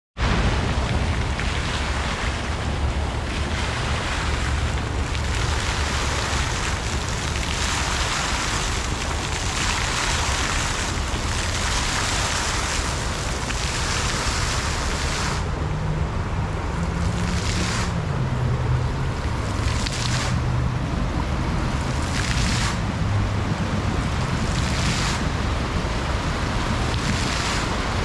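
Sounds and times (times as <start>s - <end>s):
fountain water splashing: 0.2s - 28.0s.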